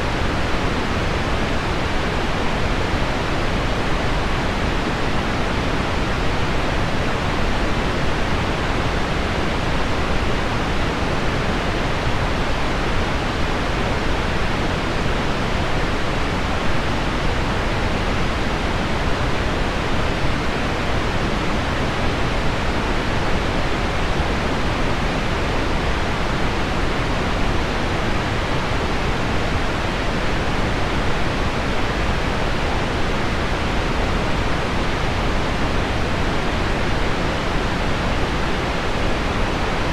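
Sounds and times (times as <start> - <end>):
pink noise: 0.0 - 39.9.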